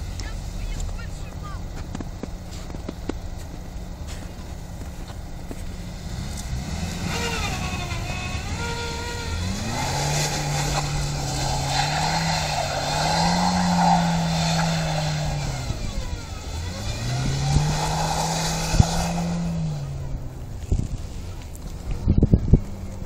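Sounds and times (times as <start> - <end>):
car engine revving: 0.0 - 23.0
tyres churning through snow: 0.0 - 23.0.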